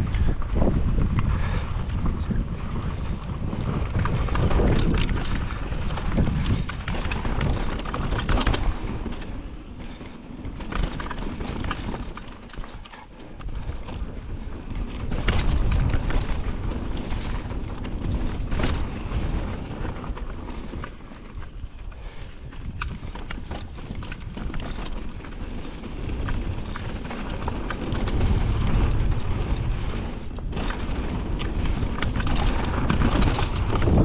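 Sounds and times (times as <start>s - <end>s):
bike rattling over rocks: 0.0s - 34.0s
tyre rumble: 0.0s - 34.0s
wind buffeting microphone: 0.0s - 34.0s.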